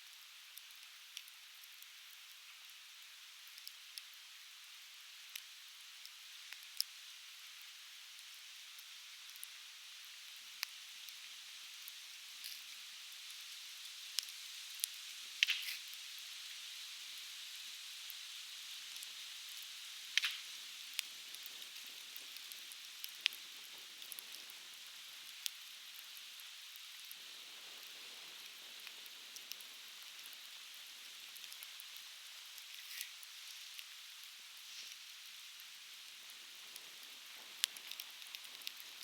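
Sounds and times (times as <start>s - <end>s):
firewood crackling and popping: 0.0s - 7.0s, 7.7s - 16.6s, 17.8s - 39.0s.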